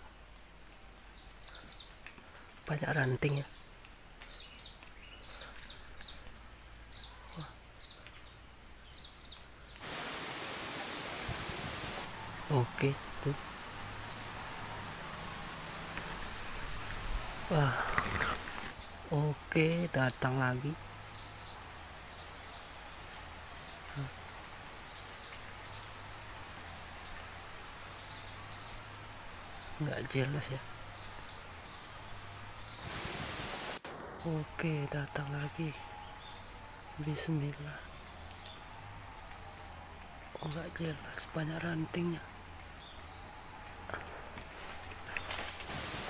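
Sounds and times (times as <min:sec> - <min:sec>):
even hiss: 0:00.0 - 0:46.0
high insect whine: 0:00.0 - 0:46.0.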